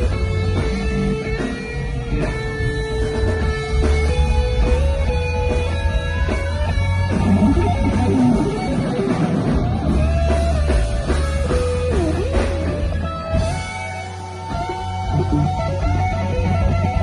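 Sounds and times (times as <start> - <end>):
bass: 0.0 - 17.0
drums: 0.0 - 17.0
guitars with sliding notes: 0.0 - 17.0.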